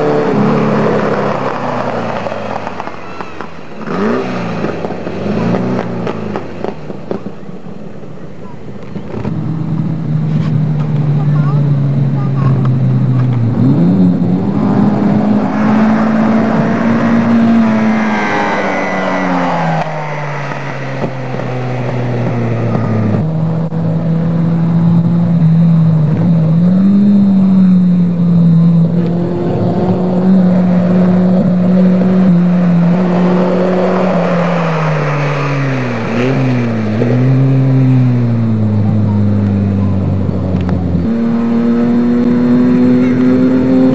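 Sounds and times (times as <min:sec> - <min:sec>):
buggy engine running: 0:00.0 - 0:34.2, 0:34.9 - 0:43.9.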